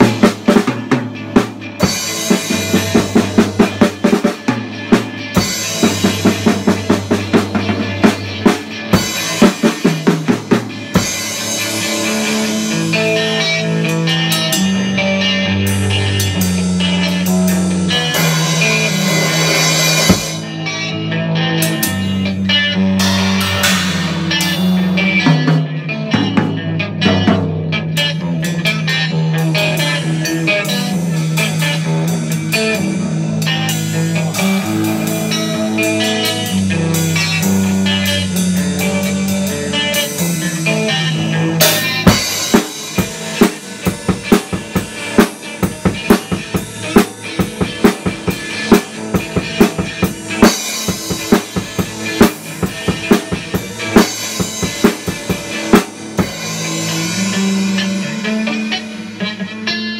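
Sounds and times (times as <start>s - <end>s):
bass line: 0.0s - 59.3s
drum kit: 0.0s - 59.9s
guitar: 0.0s - 59.9s.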